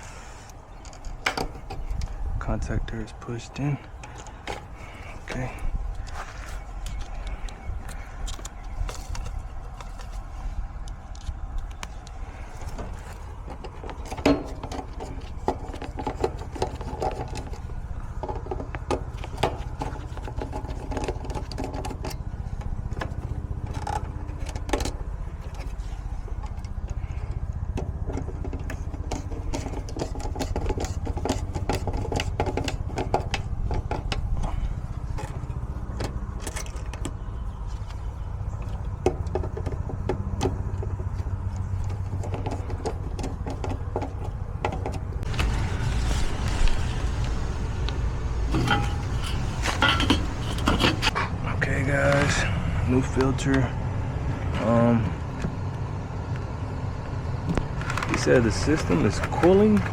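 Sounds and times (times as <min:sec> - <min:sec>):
air conditioning unit humming: 0:00.0 - 0:59.9.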